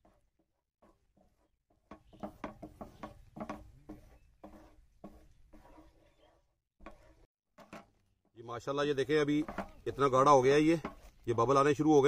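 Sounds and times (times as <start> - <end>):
wooden spatula scraping a pan: 0.0 - 12.0.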